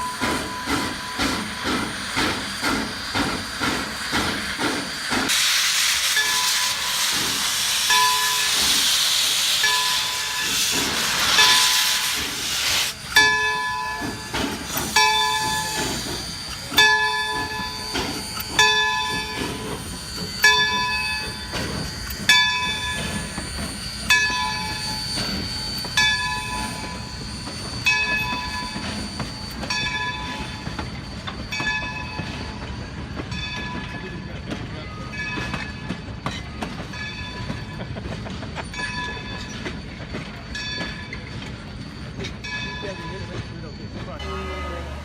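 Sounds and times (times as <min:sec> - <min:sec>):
locomotive bell ringing: 0:00.0 - 0:04.4, 0:06.0 - 0:12.4, 0:13.0 - 0:45.0
train rumbling on rails: 0:00.0 - 0:45.0.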